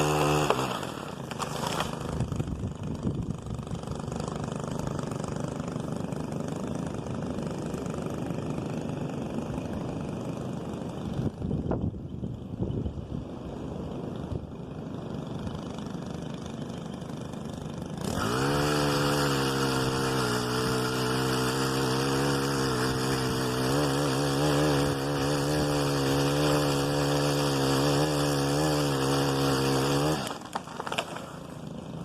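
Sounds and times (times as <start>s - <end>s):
pole saw motor spinning: 0.0s - 11.9s, 13.6s - 32.0s.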